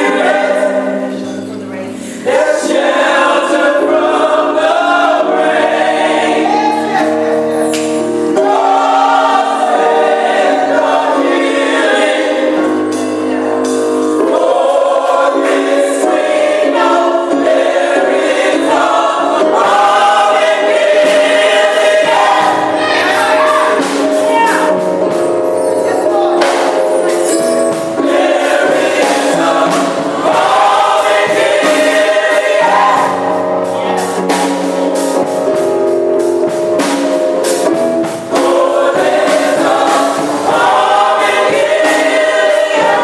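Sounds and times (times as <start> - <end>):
gospel choir singing: 0.0 - 43.0
musical accompaniment: 0.0 - 43.0.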